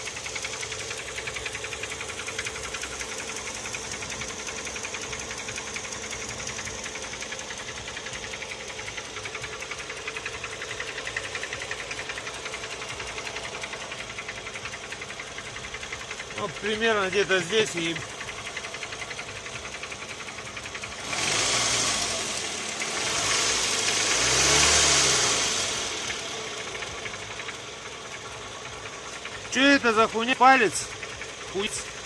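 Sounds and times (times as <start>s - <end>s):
engine running with fast knock: 0.0s - 32.0s.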